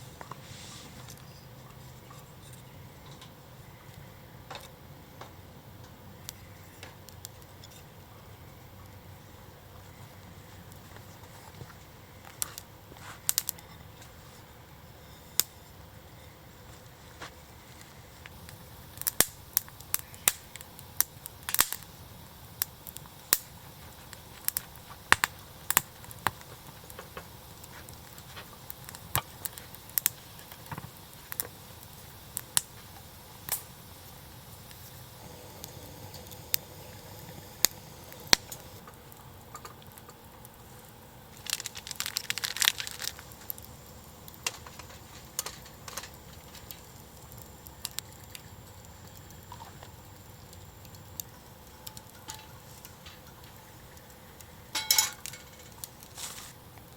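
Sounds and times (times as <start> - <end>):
campfire crackling: 0.0 - 56.9.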